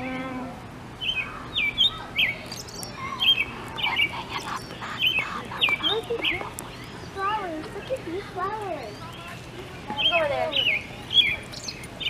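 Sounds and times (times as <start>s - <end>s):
birds chirping: 1.0s - 12.0s.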